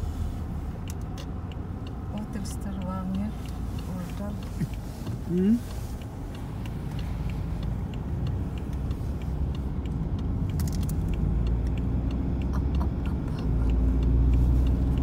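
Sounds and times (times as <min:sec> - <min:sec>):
car engine and tyre rumble: 0:00.0 - 0:15.0
light ticks: 0:00.1 - 0:15.0.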